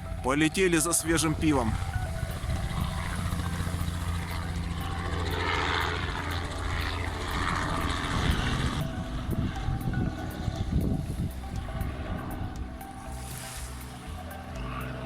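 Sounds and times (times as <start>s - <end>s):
helicopter rotor and engine hum: 0.0s - 15.0s.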